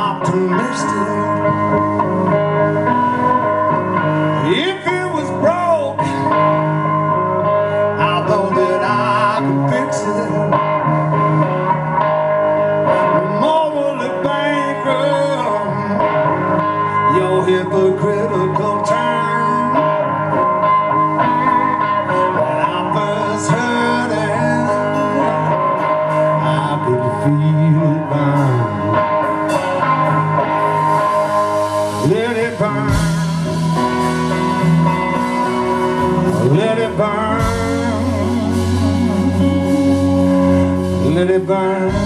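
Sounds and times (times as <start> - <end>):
bass guitar: 0.0 - 42.0
drums: 0.0 - 42.0
electric guitar: 0.0 - 42.0.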